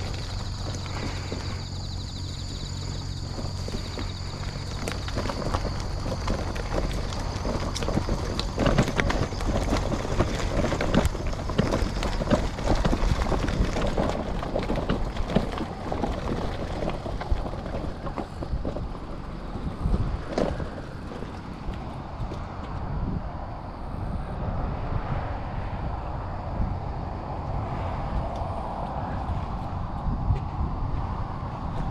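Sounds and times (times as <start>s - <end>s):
bicycle rattling over bumps: 0.0s - 31.9s
bicycle tyres crunching on gravel: 0.0s - 31.9s.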